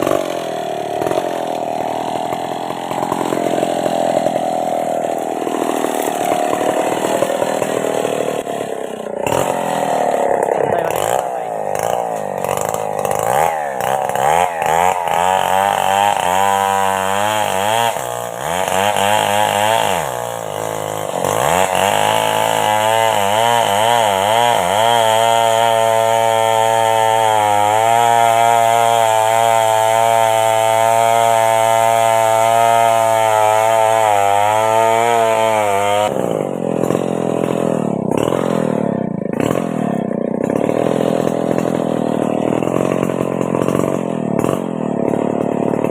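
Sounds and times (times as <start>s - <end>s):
chainsaw engine revving: 0.0s - 45.9s.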